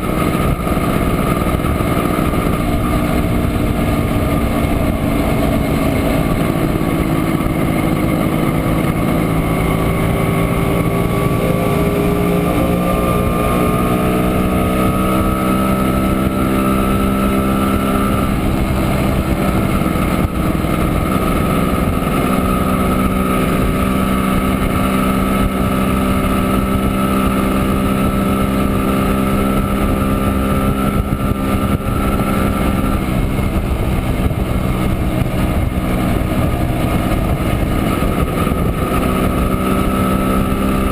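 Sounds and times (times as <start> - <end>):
two-stroke motorcycle engine: 0.0 - 40.9.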